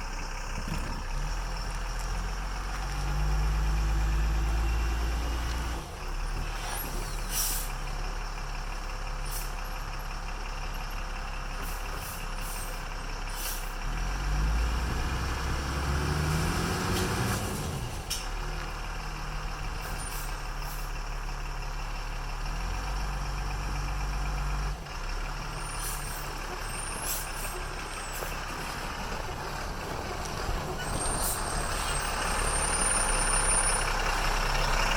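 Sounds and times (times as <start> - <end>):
truck diesel engine running: 0.0 - 34.9.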